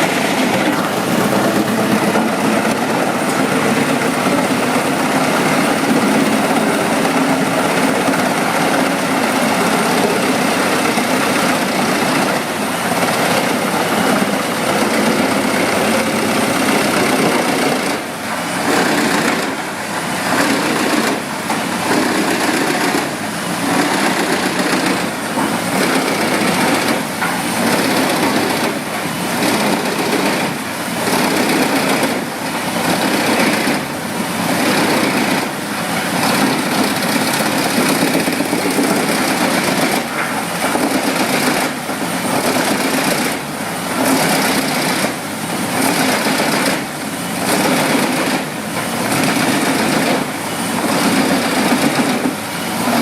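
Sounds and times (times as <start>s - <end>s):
wood chipper running: 0.0s - 53.0s.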